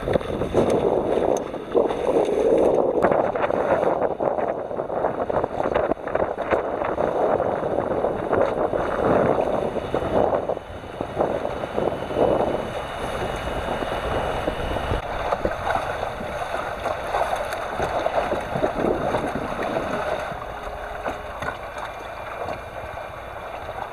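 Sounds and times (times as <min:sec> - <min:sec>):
water rushing along boat hull: 0:00.0 - 0:23.9
wind buffeting microphone: 0:00.0 - 0:23.9.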